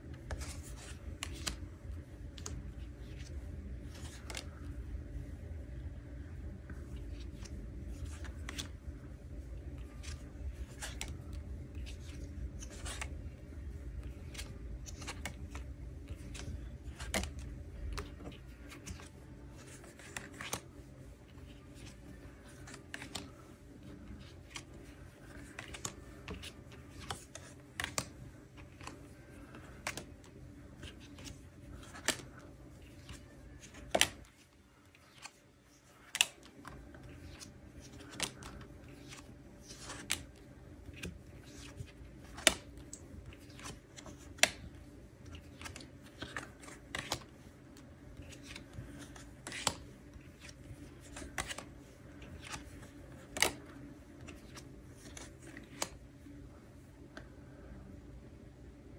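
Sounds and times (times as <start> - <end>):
steady low hum: 0.0 - 58.9
paper cards flipping: 0.2 - 1.6, 2.2 - 4.7, 6.8 - 8.8, 9.6 - 13.2, 14.0 - 56.0.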